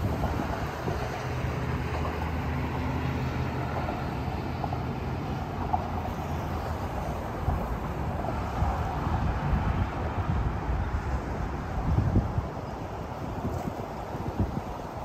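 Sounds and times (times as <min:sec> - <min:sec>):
moving vehicle humming: 0:00.0 - 0:15.0.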